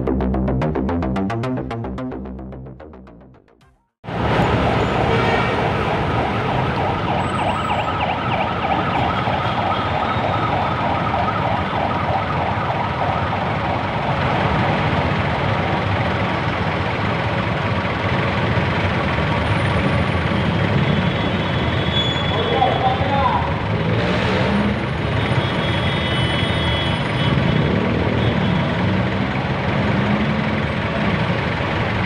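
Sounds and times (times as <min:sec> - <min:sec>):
vehicle engines running: 0:04.1 - 0:32.0.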